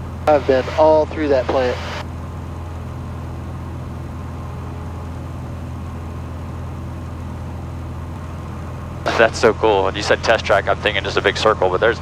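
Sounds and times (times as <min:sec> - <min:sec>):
aircraft engine droning in cabin: 0:00.0 - 0:12.0.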